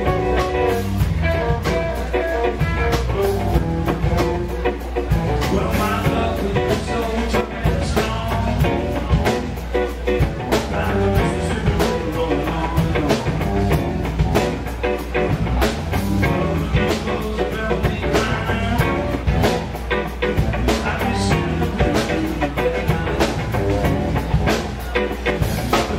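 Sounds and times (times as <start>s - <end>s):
bass guitar: 0.0s - 25.9s
drum kit beat: 0.0s - 25.9s
electric guitar lead: 0.0s - 25.9s.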